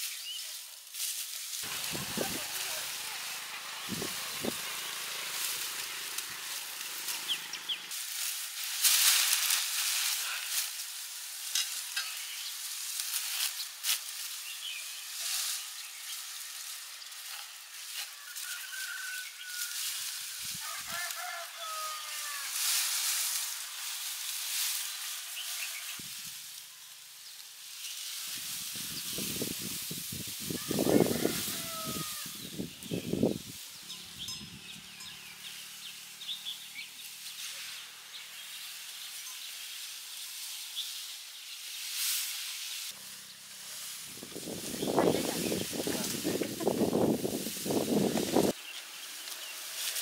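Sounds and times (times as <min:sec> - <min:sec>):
steady sizzling hiss: 0:00.0 - 0:50.0.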